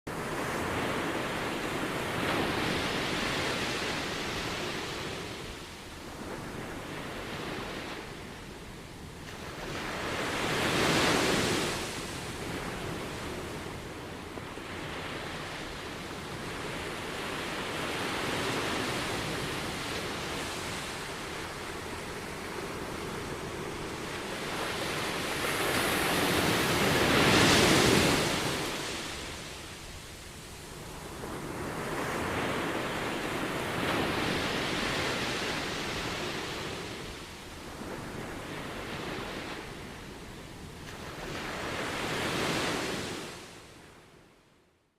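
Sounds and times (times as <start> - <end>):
small waves breaking on beach: 0.1 - 44.0.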